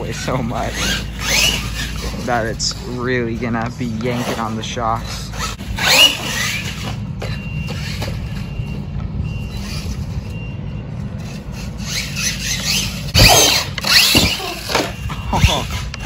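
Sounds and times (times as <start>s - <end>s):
toy truck motor whining: 0.0s - 3.0s, 4.0s - 8.6s, 9.3s - 10.4s, 11.2s - 16.0s.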